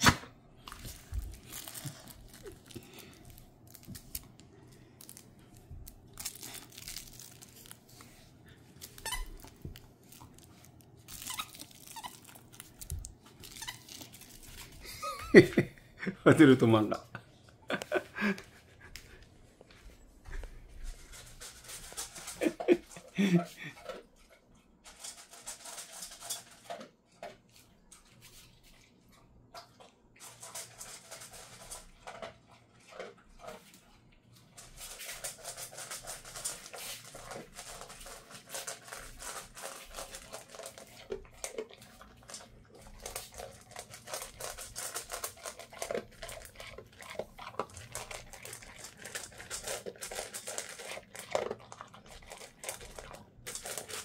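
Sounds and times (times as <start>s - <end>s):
dog crunching kibble: 0.0s - 15.1s, 21.0s - 28.9s, 29.5s - 54.0s.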